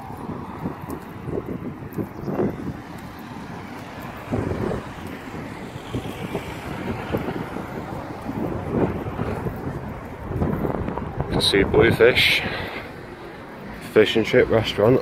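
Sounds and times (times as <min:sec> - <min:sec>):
road traffic: 0:00.0 - 0:15.0
wind buffeting microphone: 0:00.0 - 0:15.0.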